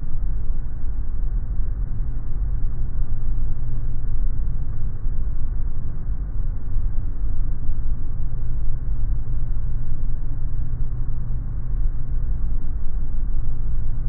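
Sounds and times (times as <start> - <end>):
engine and airflow noise: 0.0 - 14.0.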